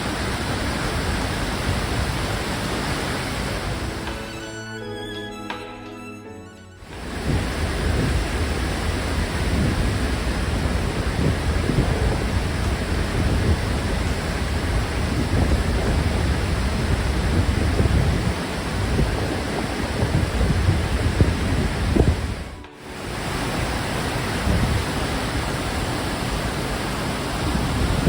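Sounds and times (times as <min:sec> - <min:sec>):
deep rumble of water: 0:00.0 - 0:04.0, 0:06.9 - 0:28.0
waterfall rushing: 0:00.0 - 0:05.9, 0:06.8 - 0:28.0.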